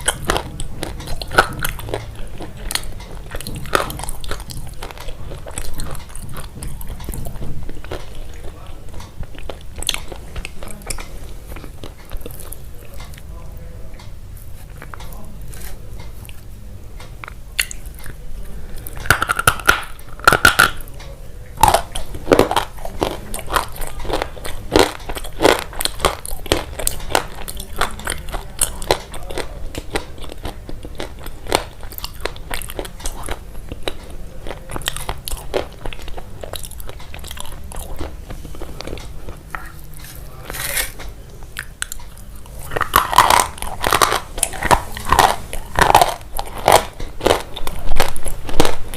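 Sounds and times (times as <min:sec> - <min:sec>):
crunchy chewing: 0:00.0 - 0:13.3, 0:14.0 - 0:21.0, 0:21.6 - 0:48.9.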